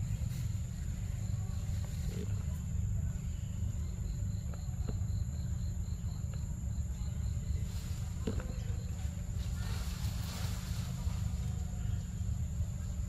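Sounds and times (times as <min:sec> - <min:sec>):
insect chirping: 0:00.0 - 0:13.0
low rumble on microphone: 0:00.0 - 0:13.0.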